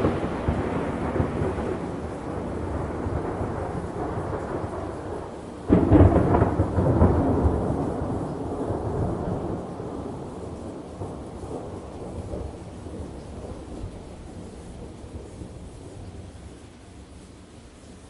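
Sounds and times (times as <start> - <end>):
thunder rumbling: 0.0 - 17.2
steady rain: 0.0 - 18.0.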